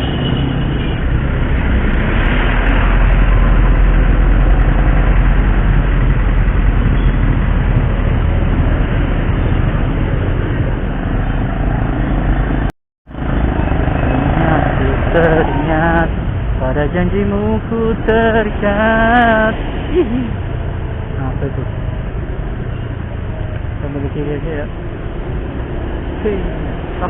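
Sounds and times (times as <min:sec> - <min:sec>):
motorcycle engine and road rumble: 0:00.0 - 0:27.0.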